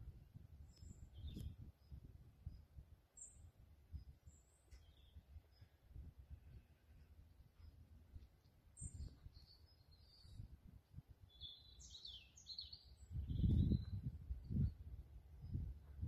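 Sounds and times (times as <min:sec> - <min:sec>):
low buffeting rumble: 0:00.0 - 0:16.0
birds singing: 0:00.6 - 0:10.6, 0:11.2 - 0:16.0.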